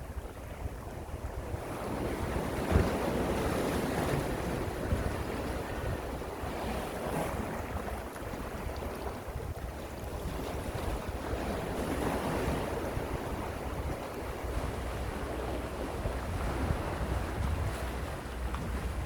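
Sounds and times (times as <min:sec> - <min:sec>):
sea waves washing ashore: 0:00.0 - 0:19.0
wind rumble on microphone: 0:00.0 - 0:19.0.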